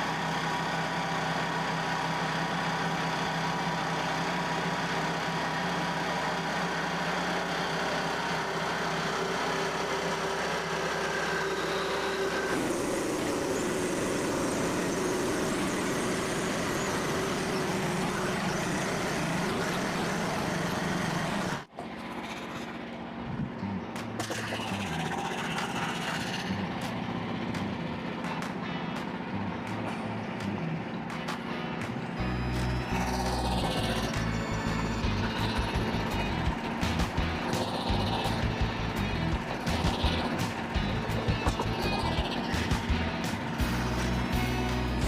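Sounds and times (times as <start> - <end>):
sawmill engine running: 0.0 - 45.0.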